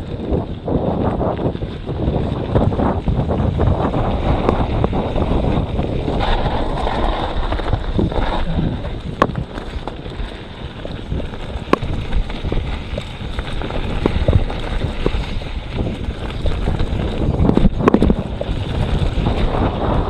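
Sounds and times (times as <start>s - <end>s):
bike clattering over roots: 0.0s - 20.0s
tyres rumbling over dirt: 0.0s - 20.0s
wind buffeting microphone: 0.0s - 20.0s.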